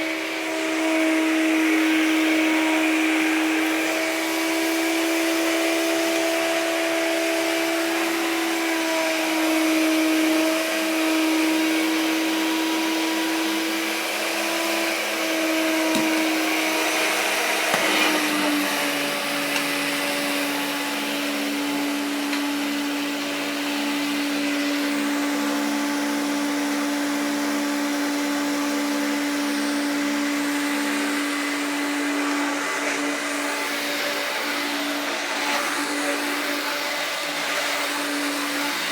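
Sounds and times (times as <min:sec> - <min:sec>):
vacuum cleaner motor hum: 0:00.0 - 0:38.9.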